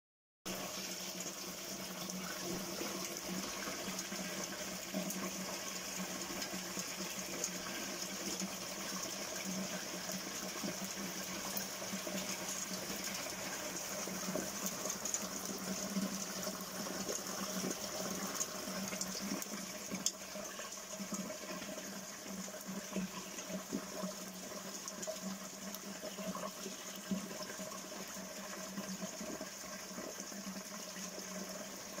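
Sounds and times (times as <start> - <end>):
rain on roof tiles: 0.5 - 27.0
rain splashing into puddle: 0.5 - 32.0.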